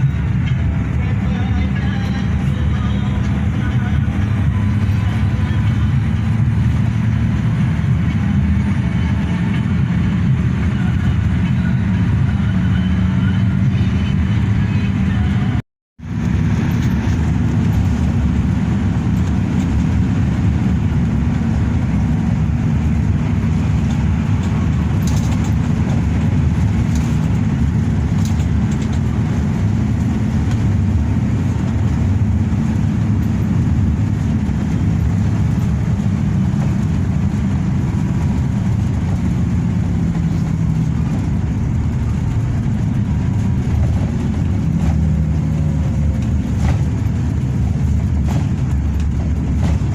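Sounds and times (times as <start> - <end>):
bus engine and road rumble: 0.0 - 49.9.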